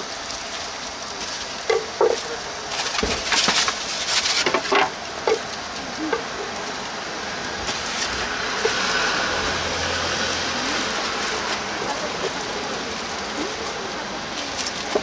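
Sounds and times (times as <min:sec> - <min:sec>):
background rumble and hiss: 0:00.0 - 0:15.0.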